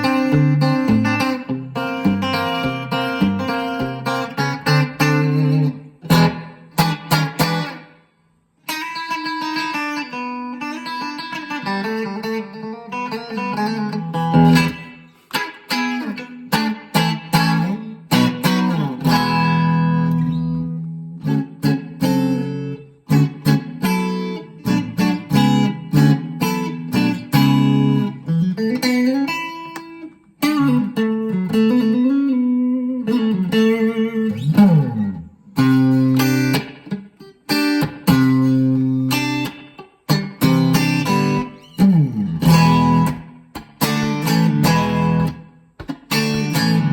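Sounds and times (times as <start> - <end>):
bent guitar notes: 0.0 - 46.9
electric guitar chords: 0.0 - 46.9.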